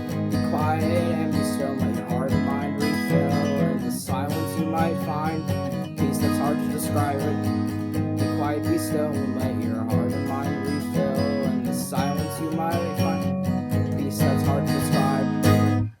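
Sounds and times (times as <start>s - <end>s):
strummed acoustic guitar music: 0.0s - 16.0s.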